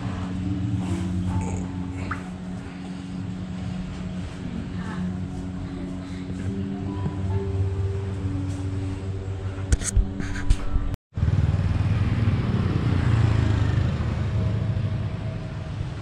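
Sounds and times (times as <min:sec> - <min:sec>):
road traffic rumble: 0:00.0 - 0:09.7, 0:11.2 - 0:16.0
motorbikes: 0:00.0 - 0:10.2, 0:11.2 - 0:16.0.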